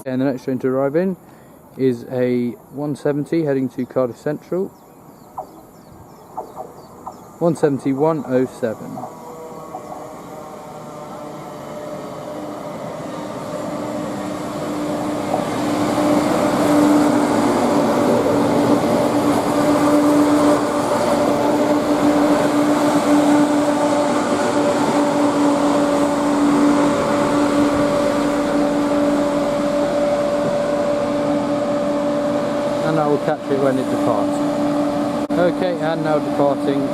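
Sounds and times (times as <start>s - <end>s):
diesel train arriving: 0.0s - 36.9s.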